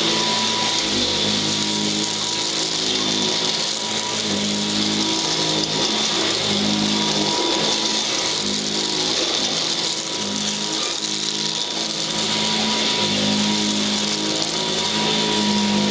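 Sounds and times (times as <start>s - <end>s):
upright vacuum cleaner running: 0.0s - 15.9s.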